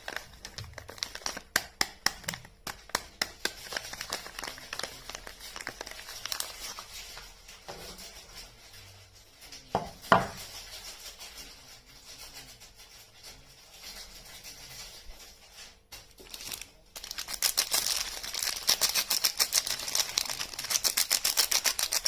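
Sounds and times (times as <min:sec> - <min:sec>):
wrappers crinkling: 0:00.0 - 0:22.0.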